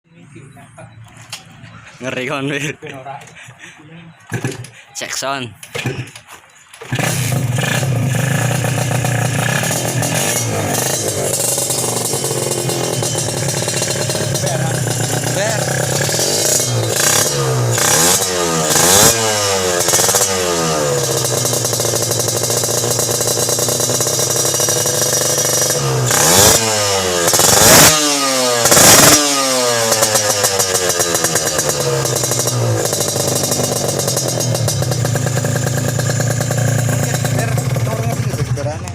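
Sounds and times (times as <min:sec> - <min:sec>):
motorcycle engine revving and idling: 0:04.3 - 0:04.8, 0:06.8 - 0:38.9.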